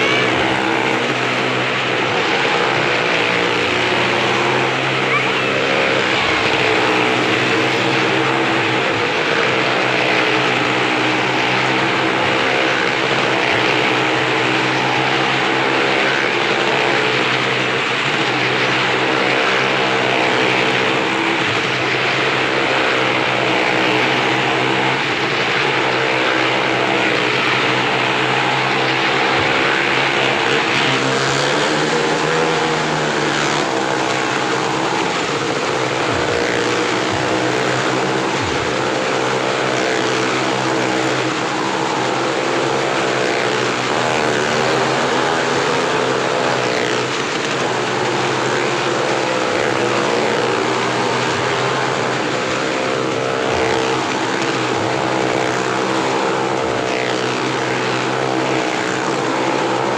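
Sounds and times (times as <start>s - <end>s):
small car engines droning: 0.0s - 59.9s.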